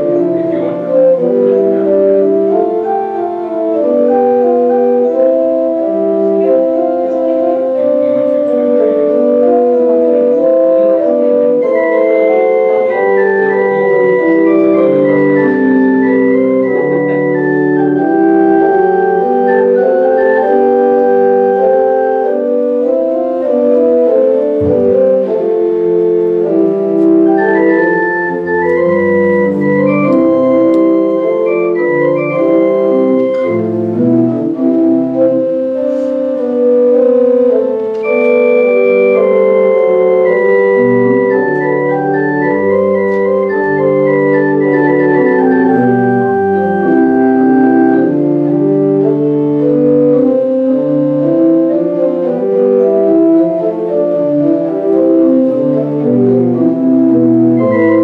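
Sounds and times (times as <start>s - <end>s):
organ playing held chords: 0.0s - 58.0s.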